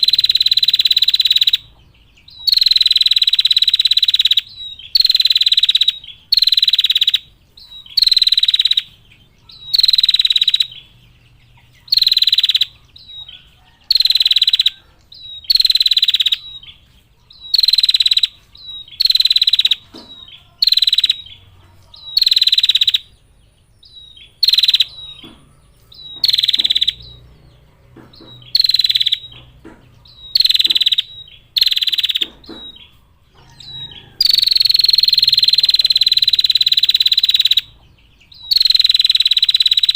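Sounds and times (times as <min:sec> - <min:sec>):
bird trilling calls: 0:00.0 - 0:39.9.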